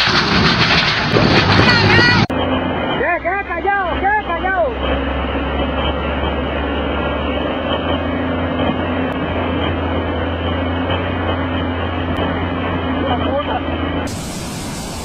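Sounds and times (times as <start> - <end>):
large engine droning: 0.0 - 15.0.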